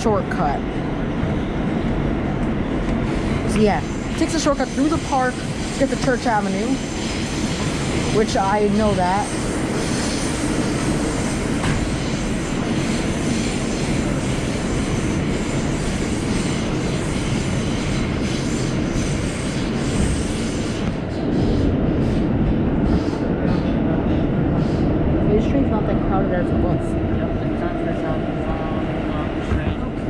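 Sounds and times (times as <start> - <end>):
subway train rumbling: 0.0 - 30.0
wheels on rail noise: 0.0 - 30.0.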